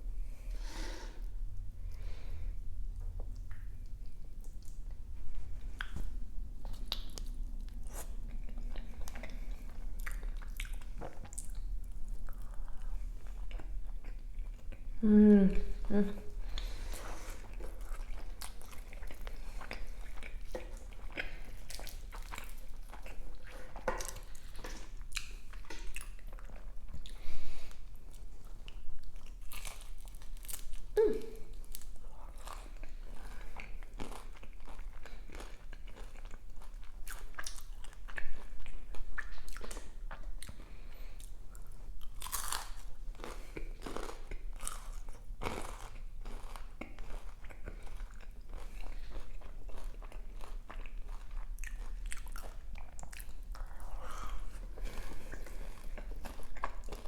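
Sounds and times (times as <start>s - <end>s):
chewing crunchy food: 3.0s - 15.0s, 16.4s - 57.0s.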